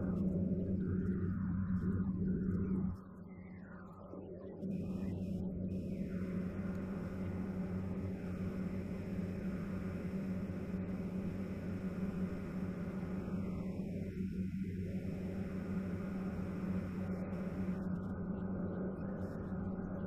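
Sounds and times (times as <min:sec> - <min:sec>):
low even hum: 0:00.0 - 0:20.0.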